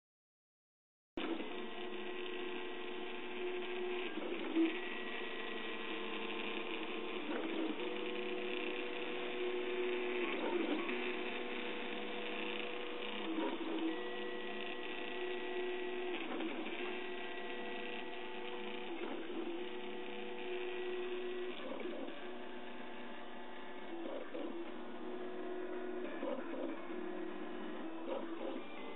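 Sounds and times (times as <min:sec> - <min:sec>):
stepper motor tones: 0:01.2 - 0:28.9.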